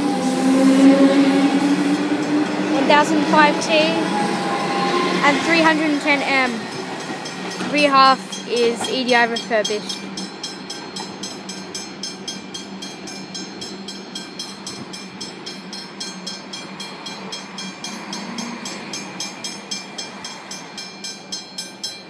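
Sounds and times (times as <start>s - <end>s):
electric train hum and whine: 0.0s - 22.0s
train wheels clicking: 0.0s - 22.0s.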